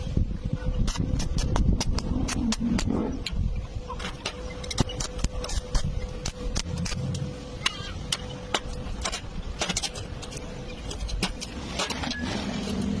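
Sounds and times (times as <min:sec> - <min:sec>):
low rumble: 0:00.0 - 0:13.0
steady hum: 0:00.0 - 0:13.0.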